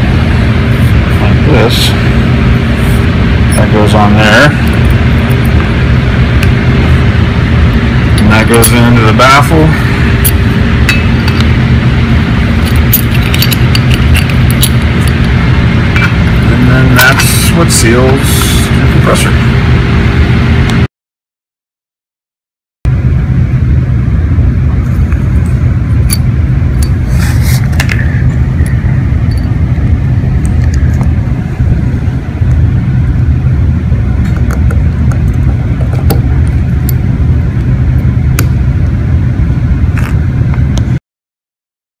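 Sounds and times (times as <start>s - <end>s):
vehicle engine low rumble: 0.0s - 20.9s, 22.9s - 41.0s.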